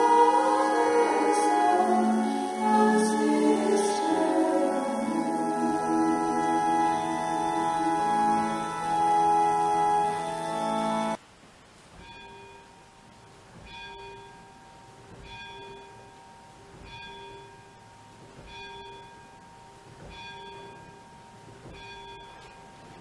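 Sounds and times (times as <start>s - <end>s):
church bell ringing: 0.0s - 11.2s, 12.1s - 23.0s.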